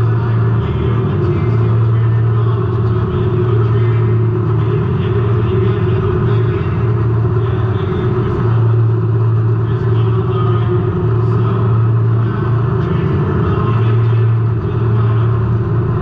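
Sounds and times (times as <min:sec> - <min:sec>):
race car engine running hard: 0:00.0 - 0:16.0
road noise rumble: 0:00.0 - 0:16.0.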